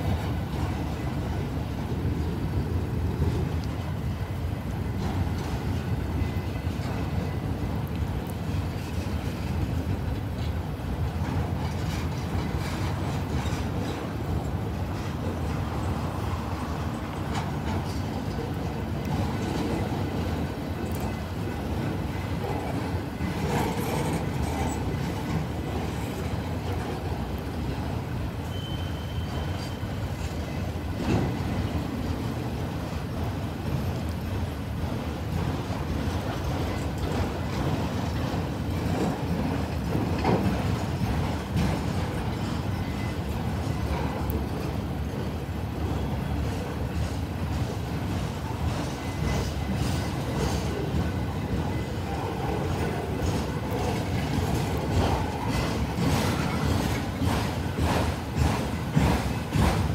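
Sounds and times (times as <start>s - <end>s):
train knocking: 0.0s - 59.9s
train wheels rumbling on rail: 0.0s - 59.9s.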